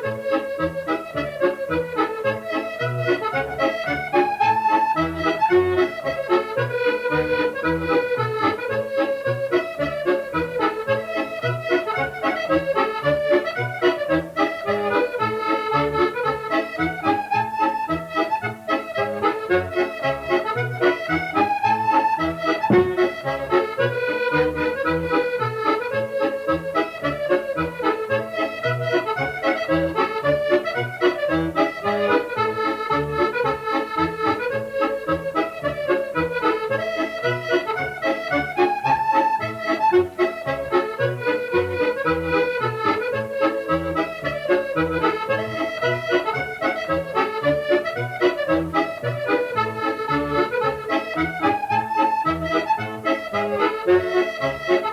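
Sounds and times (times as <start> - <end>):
accordion playing oom-pah tune: 0.0 - 54.9.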